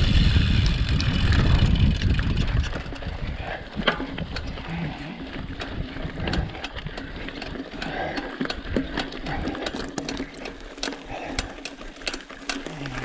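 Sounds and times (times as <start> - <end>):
mountain bike rattling over rocks: 0.0 - 13.0.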